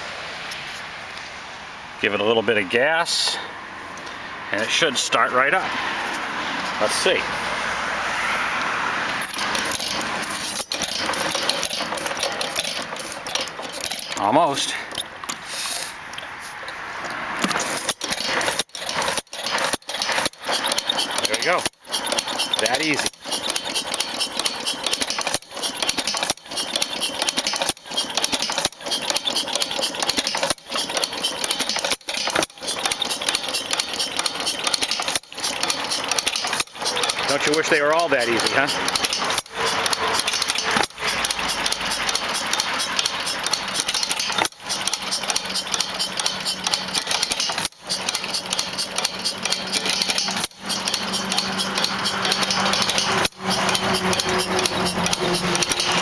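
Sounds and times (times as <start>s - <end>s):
old engine being turned over: 4.6s - 56.0s
mechanical clicks and rattles: 8.1s - 56.0s.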